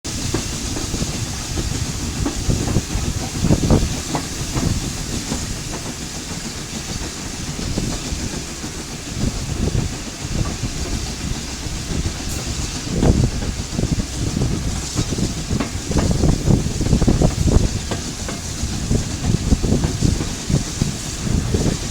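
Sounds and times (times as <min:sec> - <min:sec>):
steam hissing: 0:00.1 - 0:21.9
train wheels clattering: 0:00.1 - 0:21.9.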